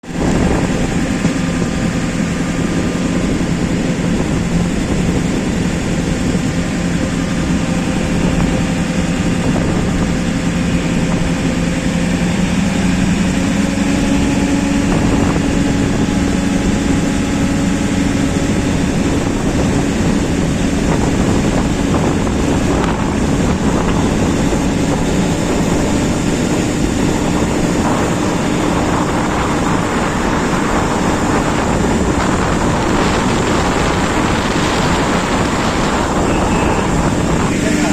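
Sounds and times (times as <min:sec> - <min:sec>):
train engine drone: 0:00.0 - 0:37.9
wind buffeting microphone: 0:00.0 - 0:37.9.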